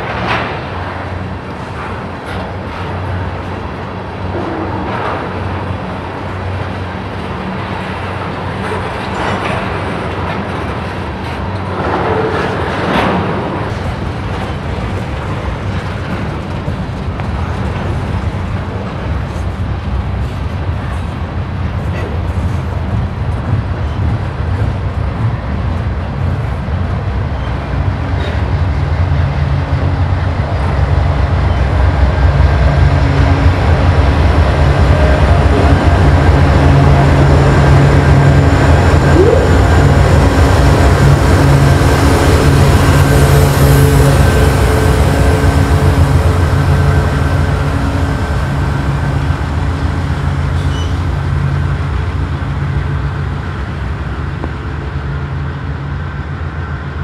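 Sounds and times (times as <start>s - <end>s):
diesel locomotive rumble: 0.0s - 57.0s
train wheels on rails: 0.0s - 57.0s.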